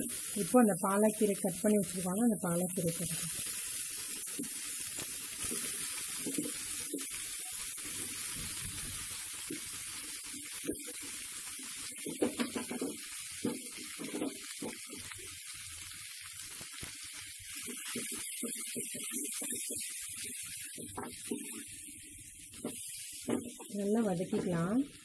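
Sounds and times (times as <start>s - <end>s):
spinach sizzling in hot oil: 0.0s - 25.0s.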